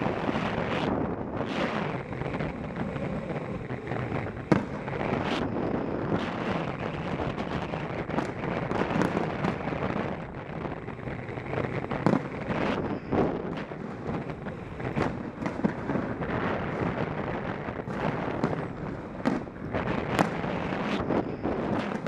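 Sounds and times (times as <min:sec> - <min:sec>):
fireworks bangs: 0:00.0 - 0:22.0
wind noise on microphone: 0:00.0 - 0:22.0.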